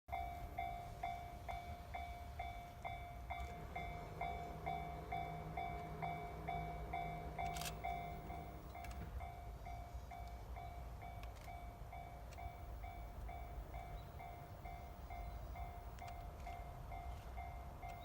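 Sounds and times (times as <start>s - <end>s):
approaching train hum: 0.1s - 18.0s
level-crossing warning bell: 0.1s - 18.0s.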